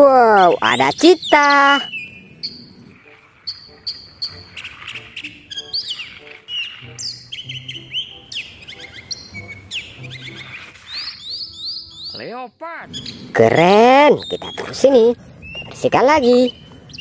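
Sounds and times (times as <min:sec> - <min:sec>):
birds chirping and whistling: 0:00.2 - 0:17.0.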